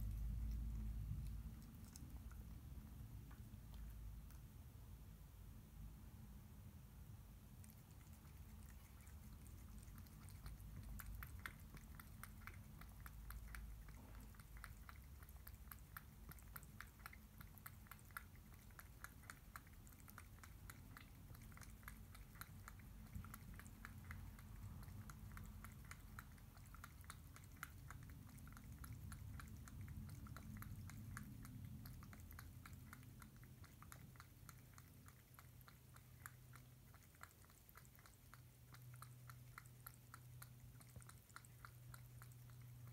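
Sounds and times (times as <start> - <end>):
cat chewing and lapping food: 0.0 - 42.9.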